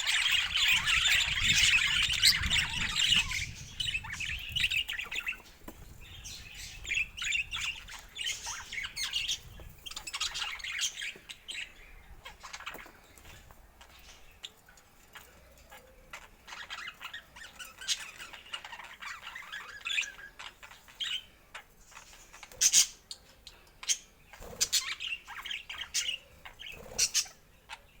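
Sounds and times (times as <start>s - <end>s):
budgerigars chattering and warbling: 0.0s - 28.0s.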